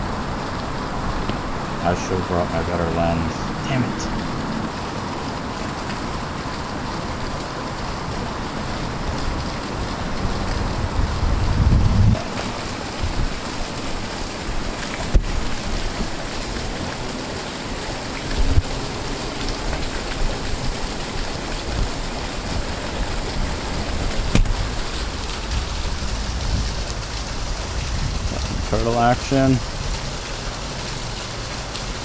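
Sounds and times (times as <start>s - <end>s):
water rushing over waterfall: 0.0s - 32.0s.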